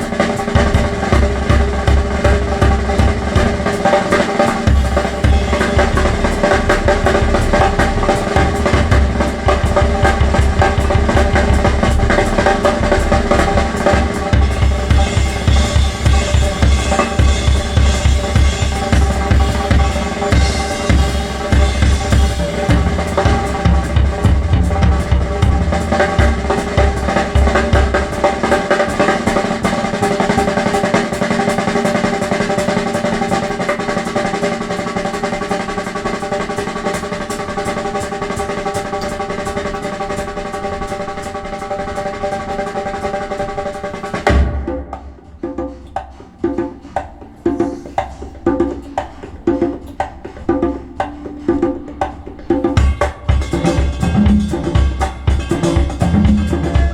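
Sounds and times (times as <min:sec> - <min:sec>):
music with fast drumming: 0:00.0 - 0:56.9.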